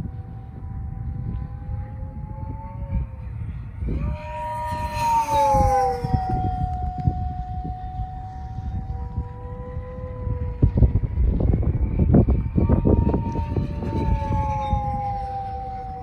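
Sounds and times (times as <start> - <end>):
model plane motor whining: 0.0 - 16.0
wind buffeting microphone: 0.0 - 16.0.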